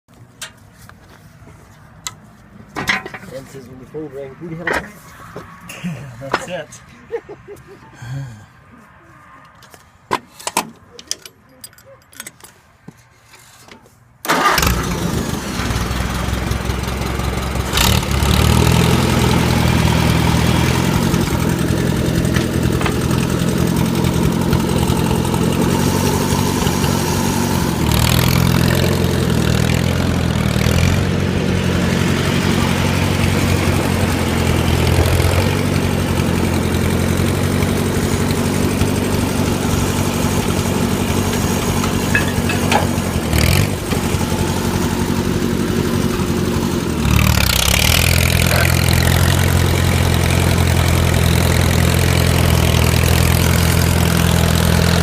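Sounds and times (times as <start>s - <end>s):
tractor engine starting and running: 0.1s - 5.6s, 9.5s - 55.0s.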